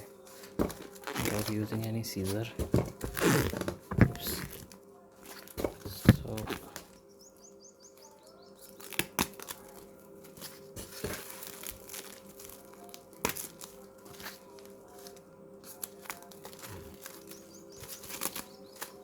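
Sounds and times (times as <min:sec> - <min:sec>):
cardboard tearing and crinkling: 0:00.3 - 0:07.0, 0:08.6 - 0:19.0.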